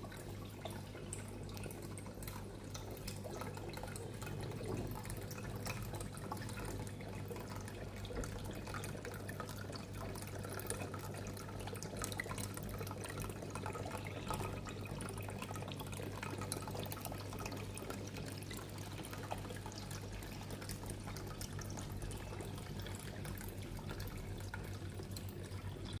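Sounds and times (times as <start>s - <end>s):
low steady hum: 0.0s - 26.0s
water fountain trickling: 0.0s - 26.0s.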